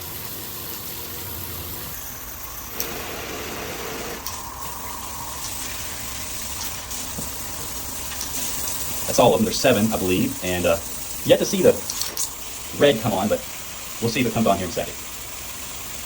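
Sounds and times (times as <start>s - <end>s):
shower water spraying: 0.0s - 16.0s.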